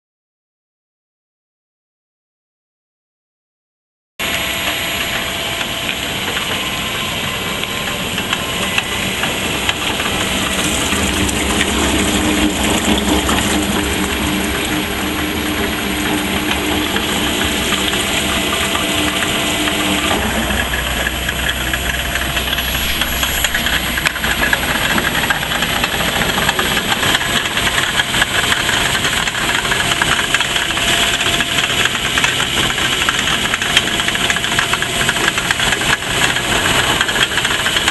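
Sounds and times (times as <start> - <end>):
car engine running: 4.2 - 37.9
deep rumble: 4.2 - 37.9
steady hum: 4.2 - 37.9.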